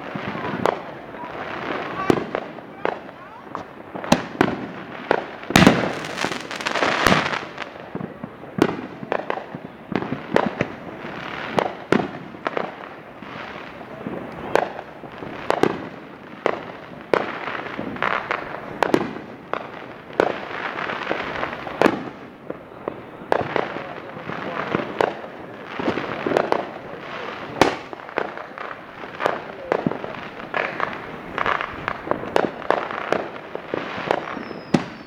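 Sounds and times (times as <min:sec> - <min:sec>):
firecrackers crackling: 0:00.0 - 0:35.0
firework bangs and pops: 0:00.0 - 0:35.0.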